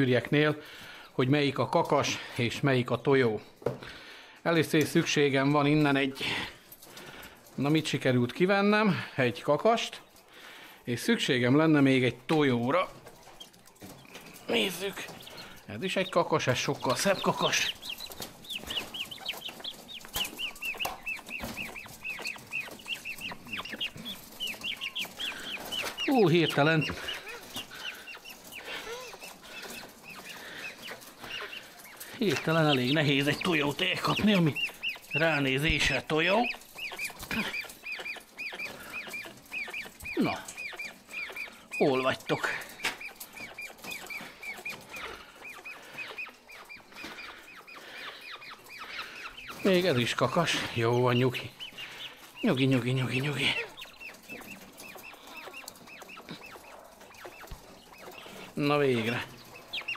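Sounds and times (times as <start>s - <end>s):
quails chirping: 0.0s - 59.9s.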